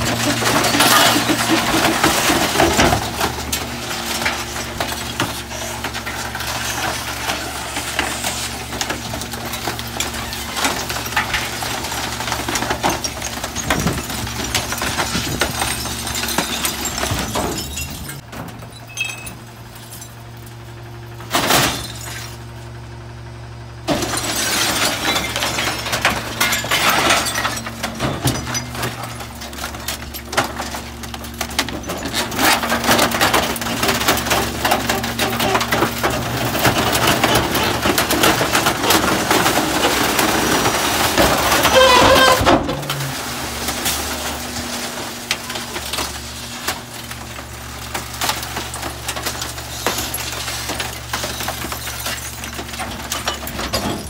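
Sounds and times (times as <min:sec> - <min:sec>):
wood cracking and splintering: 0:00.0 - 0:18.3, 0:24.2 - 0:54.0
hydraulic packer compacting waste: 0:00.0 - 0:54.0
truck engine running: 0:00.0 - 0:54.0.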